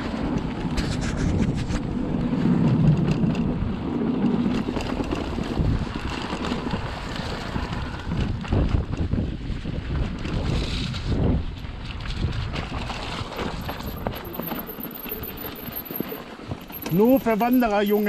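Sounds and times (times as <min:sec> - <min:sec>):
wind rushing over microphone: 0:00.0 - 0:15.6
bike clicks and rattles: 0:00.0 - 0:18.0
bike tyre rumble: 0:00.0 - 0:18.0.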